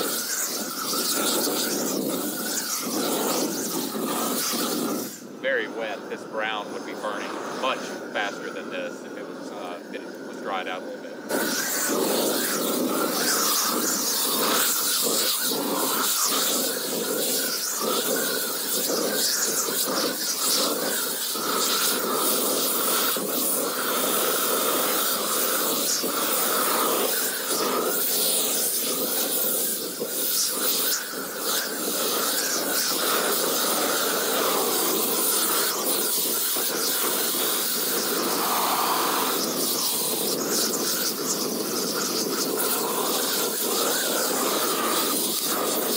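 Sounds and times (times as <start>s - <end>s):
weed torch burning: 0.0s - 45.9s.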